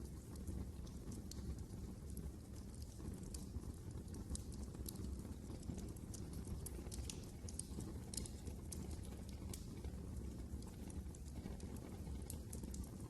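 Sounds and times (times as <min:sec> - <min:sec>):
low rumble of burning: 0:00.0 - 0:13.0
wood fire crackling: 0:00.0 - 0:13.0.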